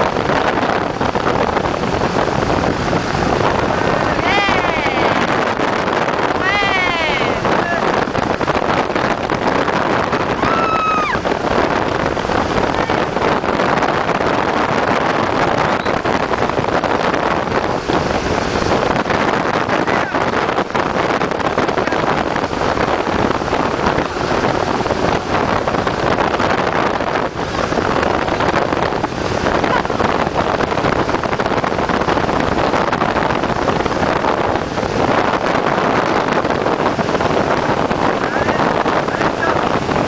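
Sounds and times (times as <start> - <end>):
boat motor running at speed: 0.0 - 40.0
wind buffeting microphone: 0.0 - 40.0.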